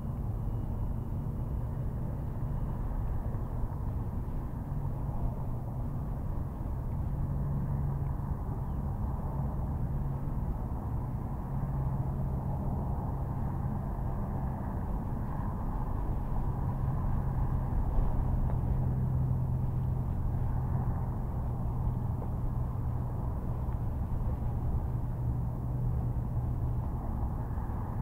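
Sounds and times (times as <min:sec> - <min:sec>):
low background noise: 0:00.0 - 0:28.0
steady low hum: 0:00.0 - 0:28.0.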